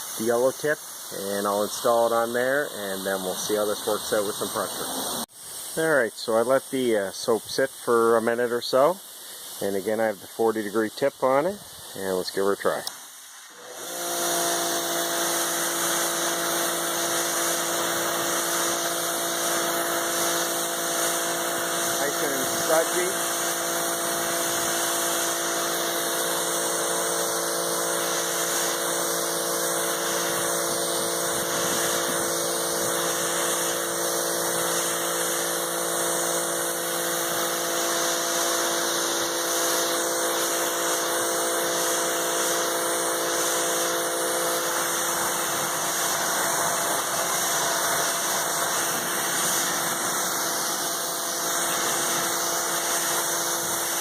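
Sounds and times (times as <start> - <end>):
pressure washer motor hum: 0.0 - 54.0
water jet hissing: 0.0 - 54.0.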